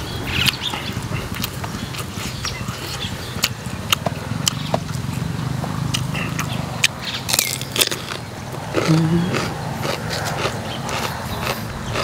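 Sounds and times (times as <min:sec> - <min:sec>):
person chewing crunchy food: 0:00.3 - 0:05.2, 0:05.8 - 0:12.0.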